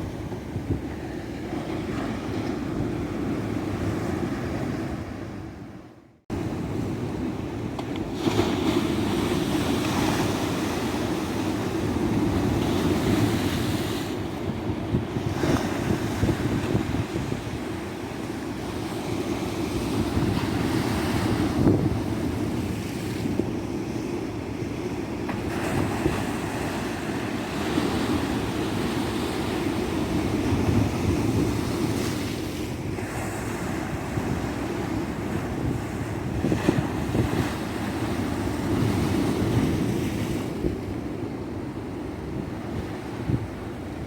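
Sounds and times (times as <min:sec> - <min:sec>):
waves breaking on a beach: 0:00.0 - 0:44.0.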